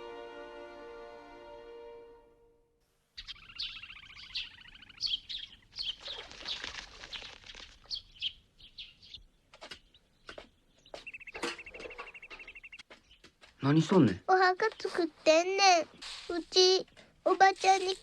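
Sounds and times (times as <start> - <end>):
birds chirping and trilling: 3.2 - 18.0.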